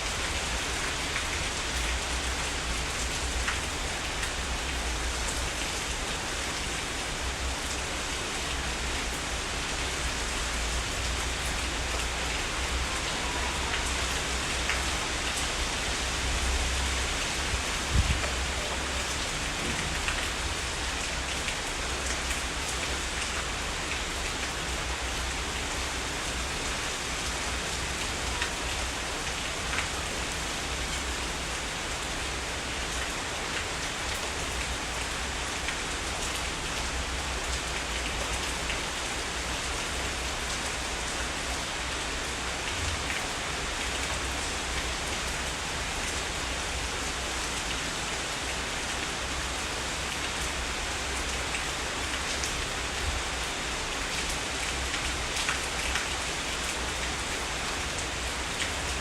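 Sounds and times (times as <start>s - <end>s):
heavy rain falling: 0.0s - 59.0s
individual raindrops: 0.0s - 59.0s.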